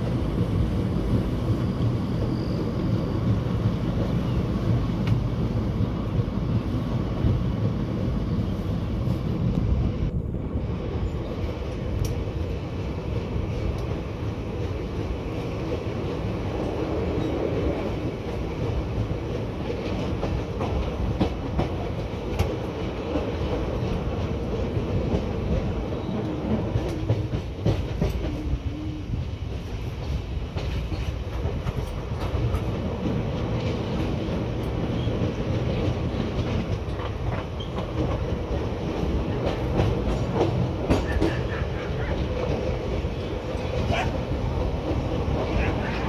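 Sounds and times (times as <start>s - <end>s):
train rumble and rush: 0.0s - 46.0s
wheels clickety-clack over rail joints: 0.0s - 46.0s.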